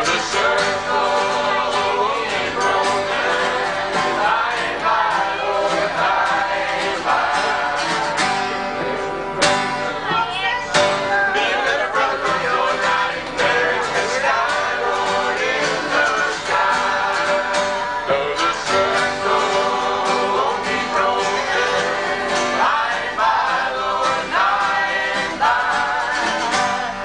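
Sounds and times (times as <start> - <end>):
acoustic guitars strummed and picked: 0.0 - 27.0
voices singing: 0.0 - 27.0.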